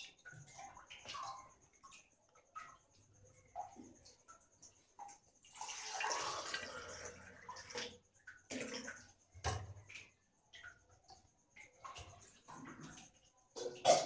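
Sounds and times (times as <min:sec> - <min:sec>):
water sloshing in a steel bowl: 0:00.0 - 0:14.0.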